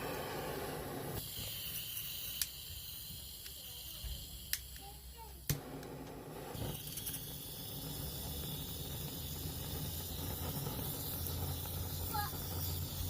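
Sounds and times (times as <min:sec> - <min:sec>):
barbecue sizzling: 0:00.0 - 0:13.0.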